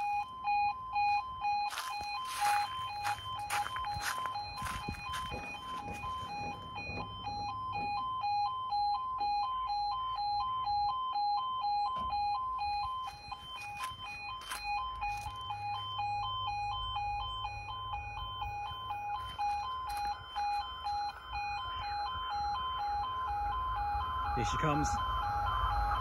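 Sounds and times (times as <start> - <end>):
two-tone electronic warning alarm: 0.0 - 26.0.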